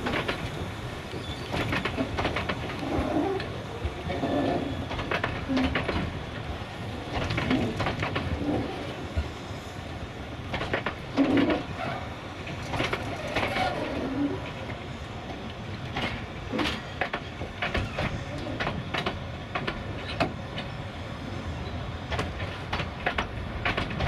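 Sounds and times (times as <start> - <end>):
train wheels clacking over rail joints: 0.0 - 9.4, 10.4 - 20.8, 22.0 - 24.0.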